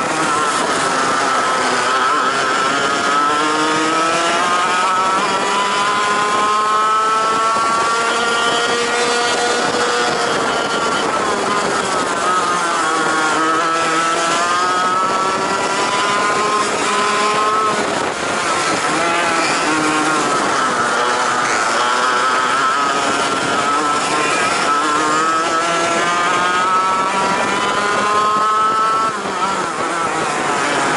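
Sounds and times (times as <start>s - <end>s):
kart engine accelerating: 0.0s - 30.9s
other kart engines: 0.0s - 30.9s.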